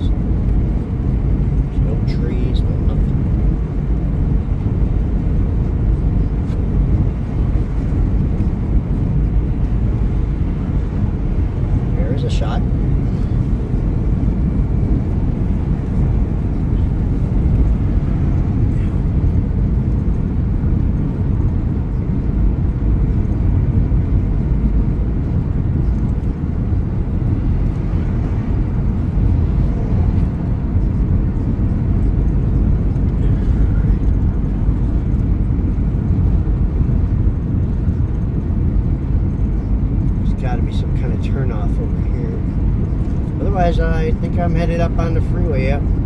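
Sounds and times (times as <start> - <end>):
car driving interior rumble: 0.0 - 46.0.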